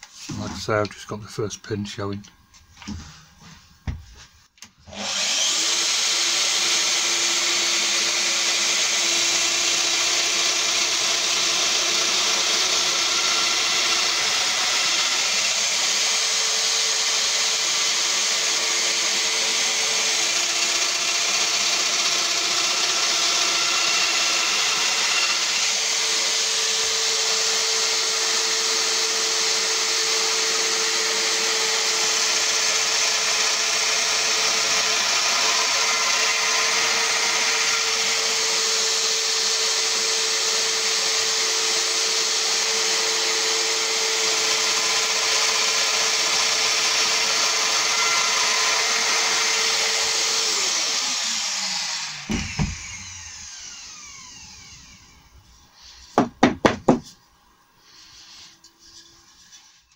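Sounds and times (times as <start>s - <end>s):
power joiner whining: 4.8s - 57.1s.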